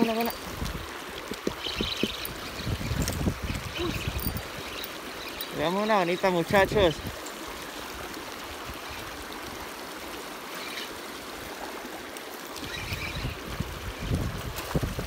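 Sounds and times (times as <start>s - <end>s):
river water running over stones: 0.0s - 15.0s.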